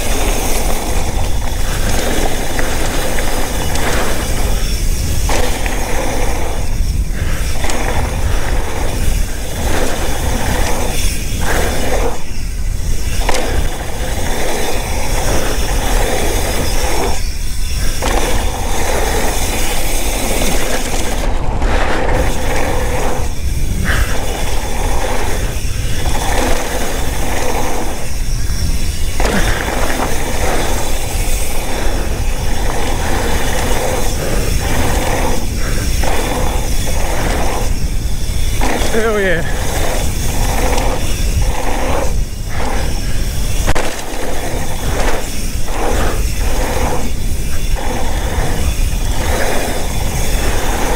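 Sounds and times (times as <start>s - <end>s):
bike chain rattling: 0.0s - 50.9s
bike tyres rushing on dirt: 0.0s - 50.9s
wind on microphone: 0.0s - 50.9s.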